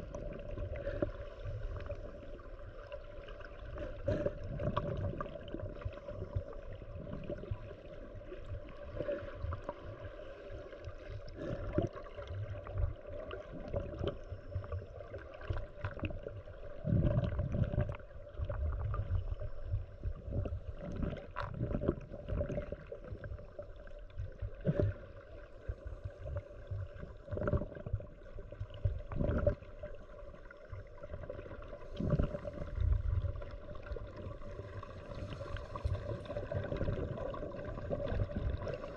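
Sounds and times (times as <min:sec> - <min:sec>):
muffled underwater water rumble: 0:00.0 - 0:38.9.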